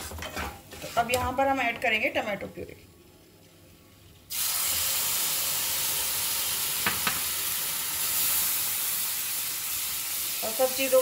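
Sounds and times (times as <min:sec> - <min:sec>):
tomato puree sizzling in a pan: 0:00.8 - 0:11.0.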